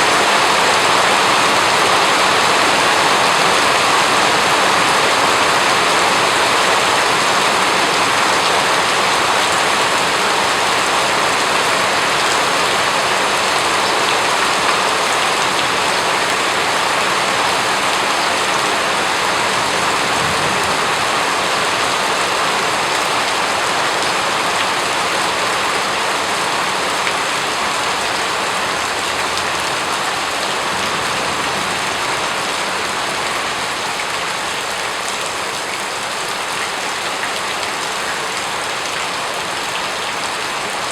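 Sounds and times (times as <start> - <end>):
dense rain falling: 0.0 - 40.9.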